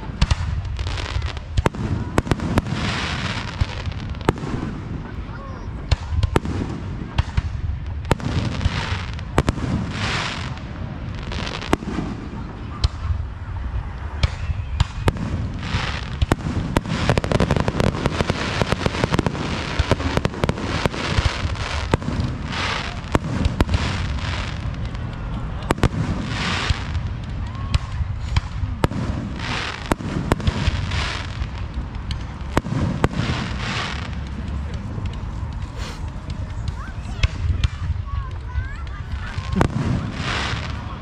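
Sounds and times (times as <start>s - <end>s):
fireworks bursting bangs: 0.0s - 41.0s.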